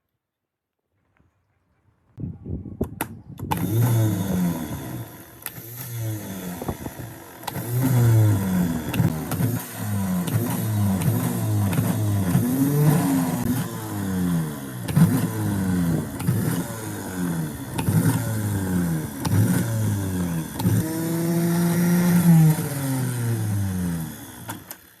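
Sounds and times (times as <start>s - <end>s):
starter motor click: 2.9s - 25.0s
starter motor whining: 3.0s - 25.0s.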